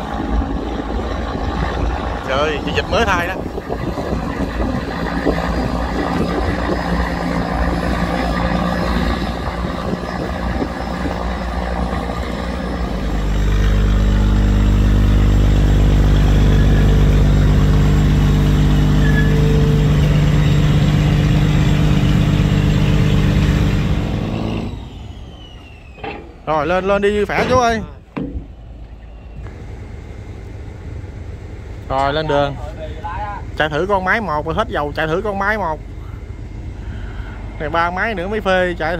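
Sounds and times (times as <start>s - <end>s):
diesel boat engine drone: 0.0s - 38.9s.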